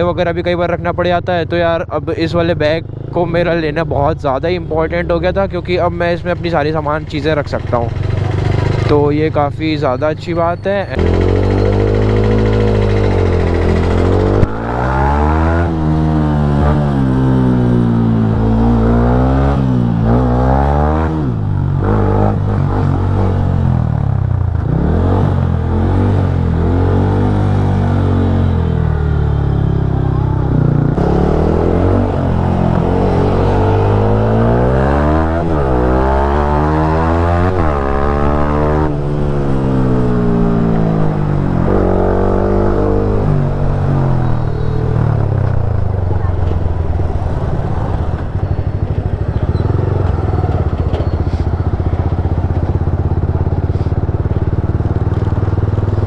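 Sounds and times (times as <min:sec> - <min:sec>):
motorcycle engine accelerating: 0:02.6 - 0:09.6, 0:10.5 - 0:56.0.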